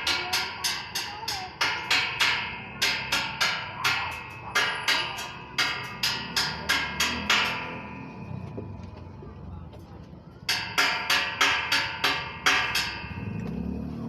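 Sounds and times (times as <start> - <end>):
hammer striking metal: 0.0 - 9.1, 10.4 - 14.0.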